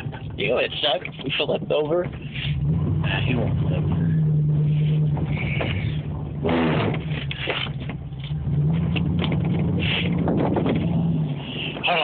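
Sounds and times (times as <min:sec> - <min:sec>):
pickup engine running: 0:00.0 - 0:12.0.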